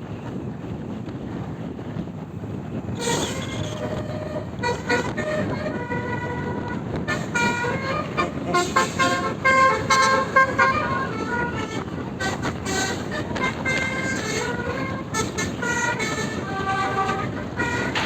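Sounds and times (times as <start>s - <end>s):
bus engine rumble: 0.0s - 18.0s
multi-tone bus horn tune: 2.8s - 18.0s.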